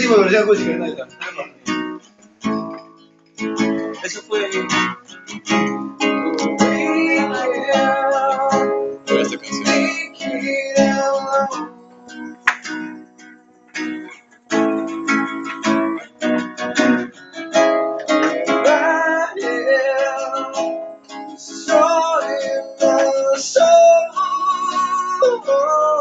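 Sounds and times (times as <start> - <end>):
acoustic guitar strumming: 0.0 - 26.0
person singing: 3.8 - 26.0.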